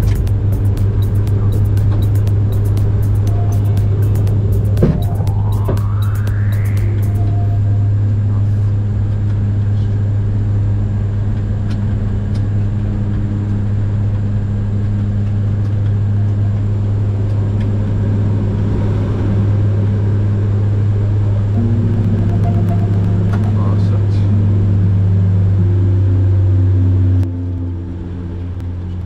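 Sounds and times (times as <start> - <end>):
airflow noise: 0.0 - 10.7, 14.6 - 27.2
propeller engines droning: 0.0 - 29.0.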